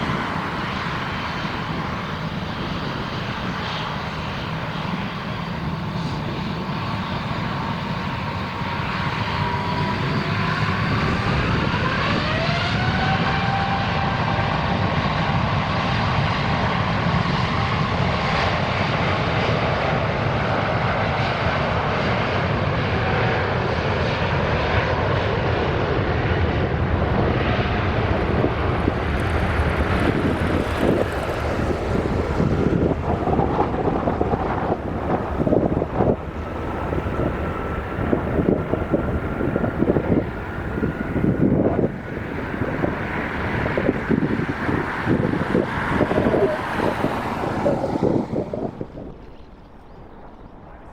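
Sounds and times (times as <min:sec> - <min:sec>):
jet engines whining for takeoff: 0:00.0 - 0:50.9
wind buffeting microphone: 0:00.0 - 0:50.9.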